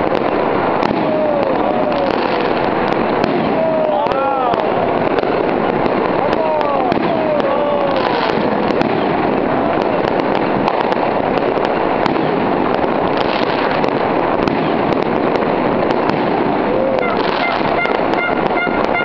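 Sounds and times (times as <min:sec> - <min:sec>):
firecracker bangs: 0:00.0 - 0:19.0
fireworks crackling: 0:00.0 - 0:19.0.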